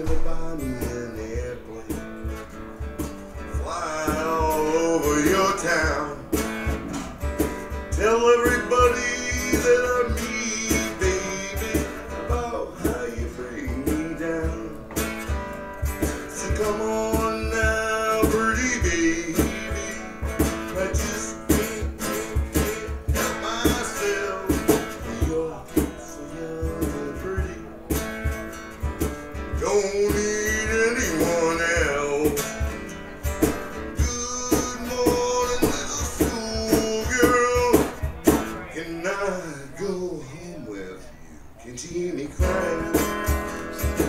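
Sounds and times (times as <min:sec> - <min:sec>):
blues guitar playing: 0:00.0 - 0:44.0.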